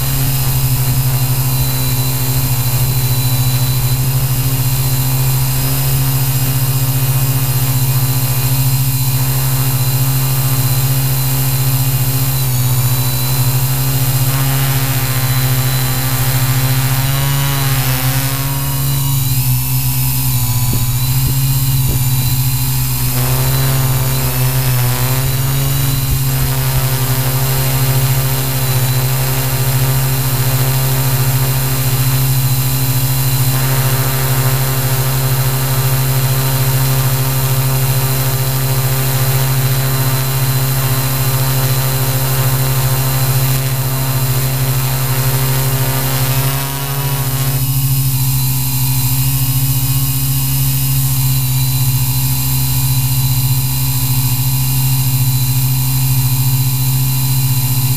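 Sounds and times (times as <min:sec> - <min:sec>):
drone motors and propellers droning: 0:00.0 - 0:57.9.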